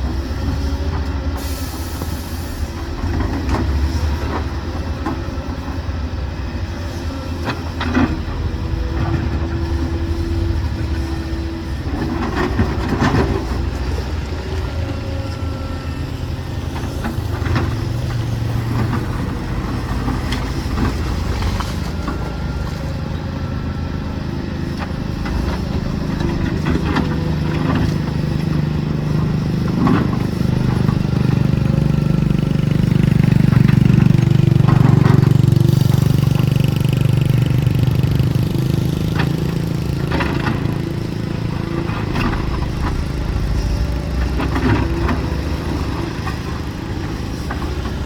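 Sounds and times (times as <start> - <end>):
diesel machinery engine drone: 0.0 - 48.0.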